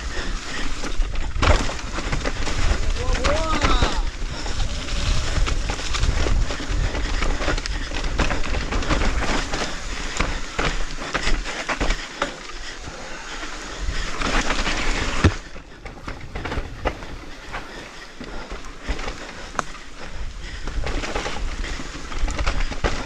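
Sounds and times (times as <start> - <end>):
bike rattling clicks: 0.0 - 23.0
bike tyres on dirt and stones: 0.0 - 23.0
wind rumbling on microphone: 0.0 - 23.0.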